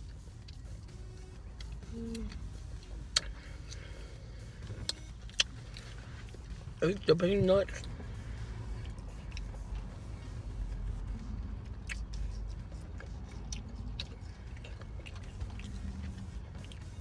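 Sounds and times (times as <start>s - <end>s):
person chewing peanuts: 0.0s - 6.6s, 7.7s - 17.0s
steady low rumble: 0.0s - 17.0s.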